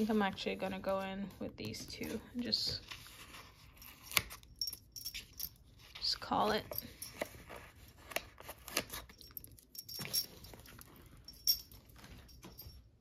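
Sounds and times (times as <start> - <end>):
paper and stickers rustling: 0.0 - 12.6.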